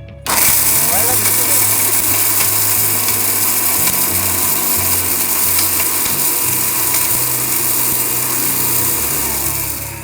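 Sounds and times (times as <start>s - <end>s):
blender motor whirring: 0.0s - 10.0s.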